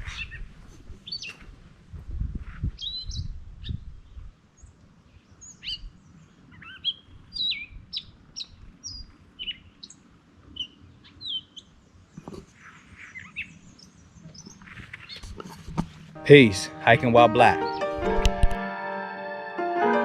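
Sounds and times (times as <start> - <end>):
songbirds chirping and whistling: 0.0 - 1.5, 2.7 - 18.1.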